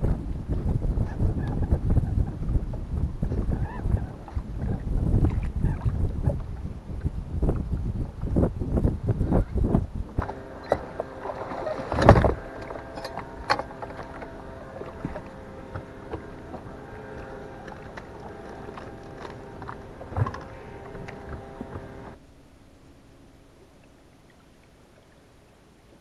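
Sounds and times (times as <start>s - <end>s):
boat motor running: 0.0s - 22.4s.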